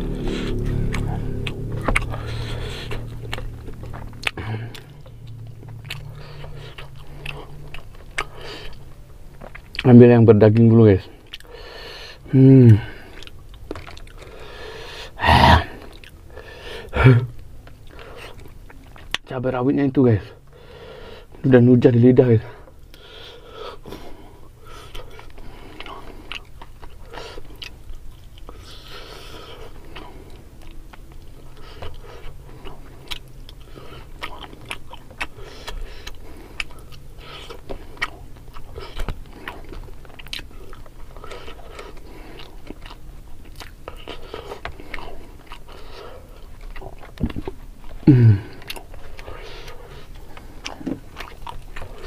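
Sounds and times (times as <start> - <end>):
close chewing with mouth clicks: 0.0 - 19.3, 22.5 - 52.0.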